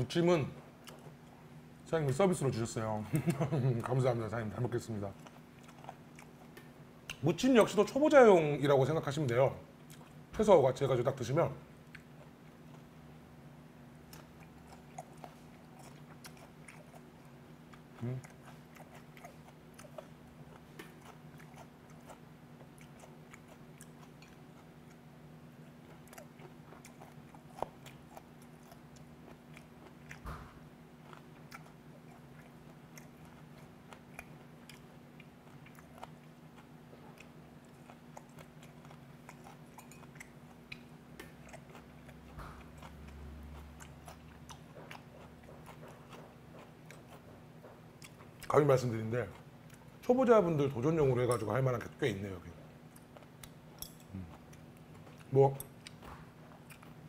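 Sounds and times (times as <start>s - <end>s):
chewing with mouth clicks: 0.8s - 1.5s, 4.8s - 7.2s, 9.8s - 10.2s, 11.8s - 13.0s, 14.0s - 52.0s, 52.6s - 57.0s.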